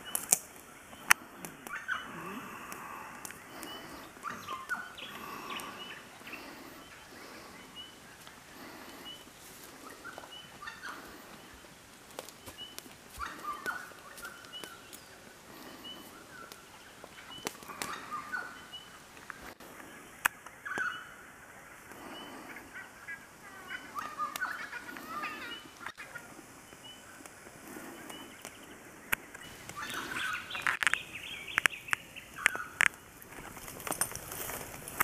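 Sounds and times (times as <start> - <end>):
birds chattering calls: 0.0 - 35.0.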